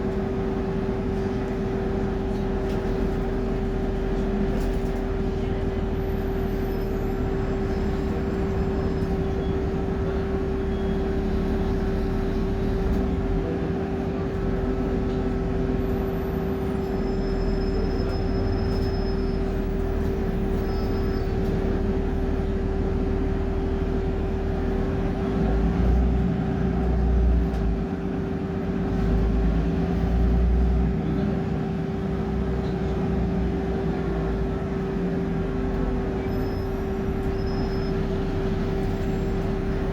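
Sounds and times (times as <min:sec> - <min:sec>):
bus engine rumbling with whine: 0:00.0 - 0:39.9.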